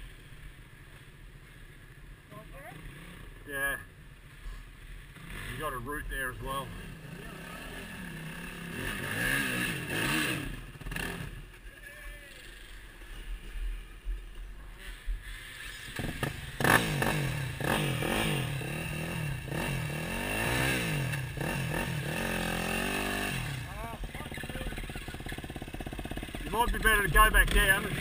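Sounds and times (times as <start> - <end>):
dirt bike engines revving: 2.4 - 28.0.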